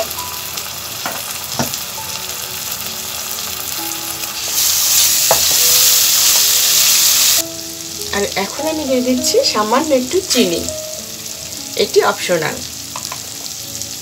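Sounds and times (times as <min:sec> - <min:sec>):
onions and spices sizzling in oil: 0:00.0 - 0:14.0.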